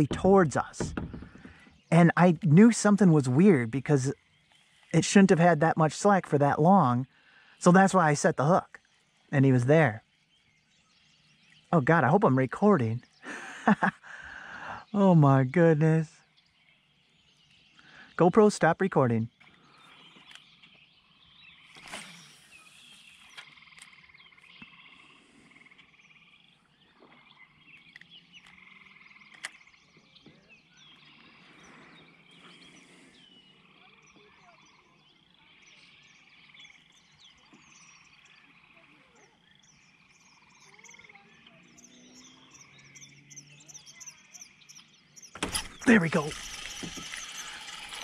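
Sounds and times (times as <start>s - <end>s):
frogs trilling: 0.0s - 48.0s.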